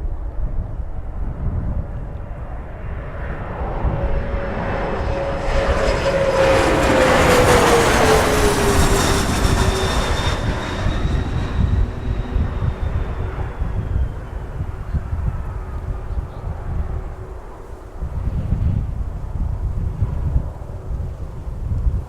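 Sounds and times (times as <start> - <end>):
jet engines passing: 0.0 - 21.6
wind buffeting microphone: 0.0 - 22.0.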